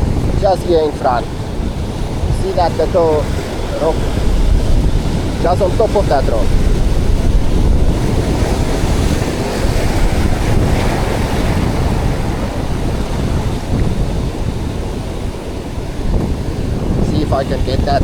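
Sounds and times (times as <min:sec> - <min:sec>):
surf breaking and washing: 0:00.0 - 0:18.0
wind buffeting microphone: 0:00.0 - 0:18.0.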